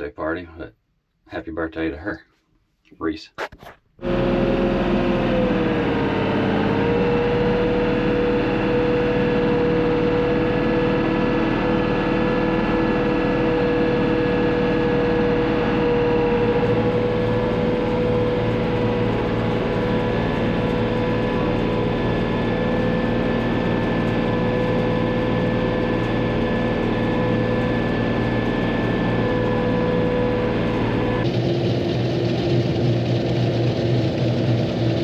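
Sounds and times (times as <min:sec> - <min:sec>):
tractor engine running: 0:04.0 - 0:35.0.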